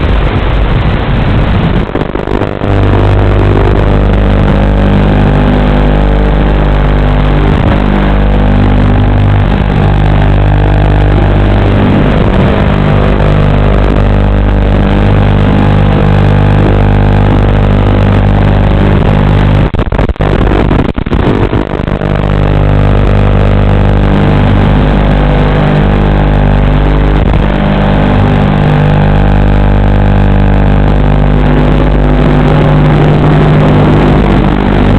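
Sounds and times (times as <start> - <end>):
steady electronic buzz: 0.0 - 34.9.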